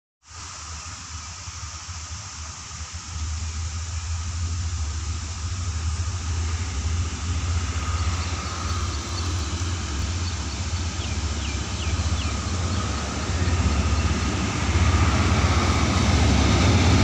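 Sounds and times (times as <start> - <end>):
diesel locomotive engine rumble: 0.2 - 17.0.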